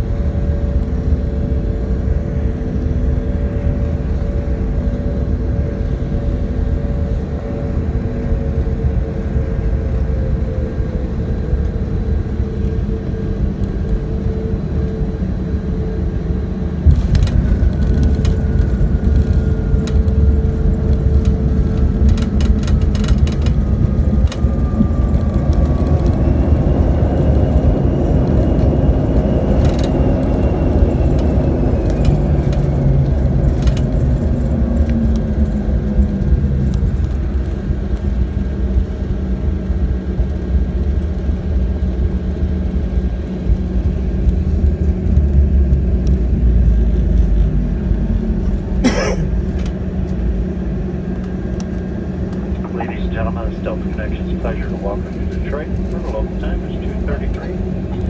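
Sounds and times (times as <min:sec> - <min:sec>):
jet engine and runway rumble: 0:00.0 - 0:58.0
jet engine whine: 0:00.0 - 0:58.0.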